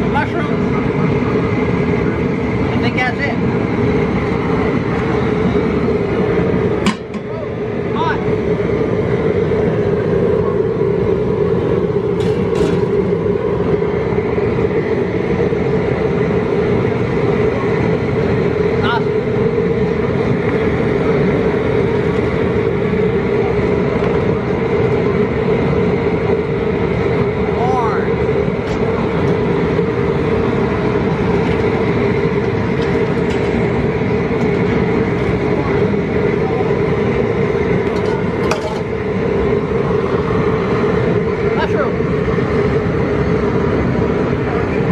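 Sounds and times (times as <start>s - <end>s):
propane burner running: 0.0s - 44.9s.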